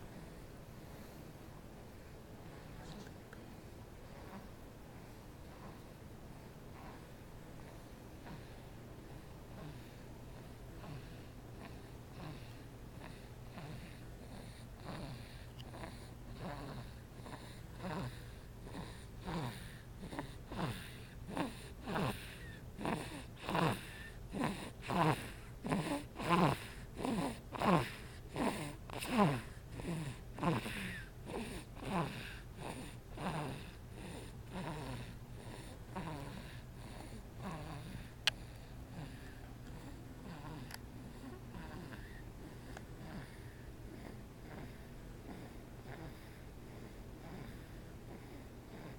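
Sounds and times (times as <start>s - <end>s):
baby snoring: 4.0s - 4.7s, 5.4s - 6.0s, 6.7s - 48.9s.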